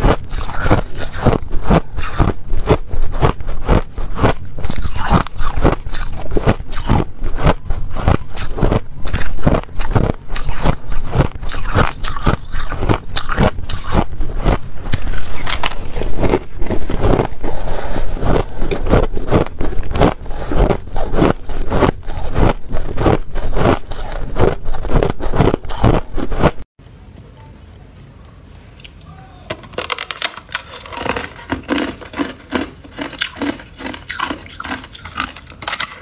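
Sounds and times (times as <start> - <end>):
crushed ice crunched between teeth: 0.0 - 26.5, 29.5 - 36.0.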